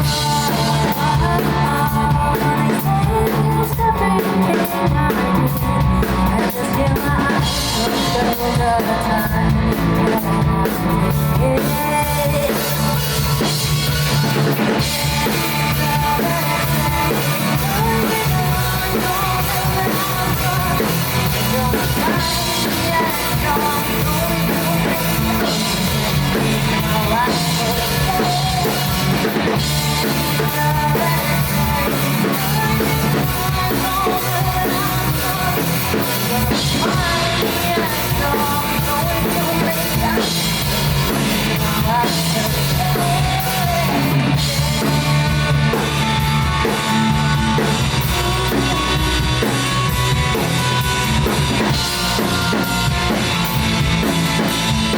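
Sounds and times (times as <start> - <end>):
drum kit: 0.0 - 54.9
person singing: 0.0 - 54.9
rock music: 0.0 - 54.9.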